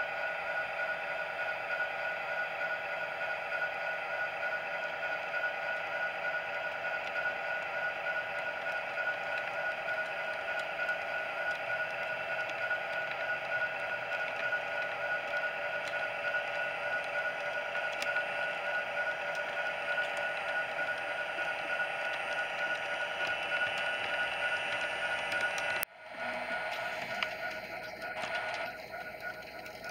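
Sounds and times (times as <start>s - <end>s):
model train motor whine: 0.0s - 29.9s.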